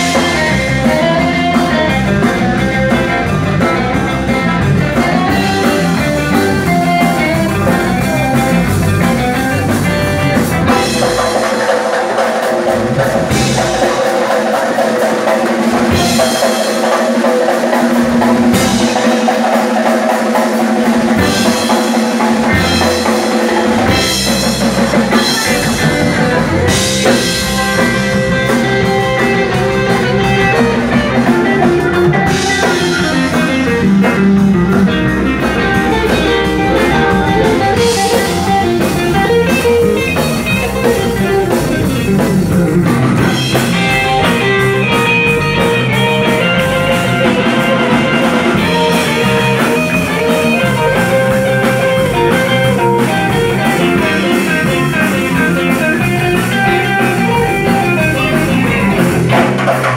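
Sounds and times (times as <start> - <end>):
bass guitar: 0.0 - 59.9
drum kit with crashing cymbals: 0.0 - 59.9
electric guitars picking melody: 0.0 - 59.9.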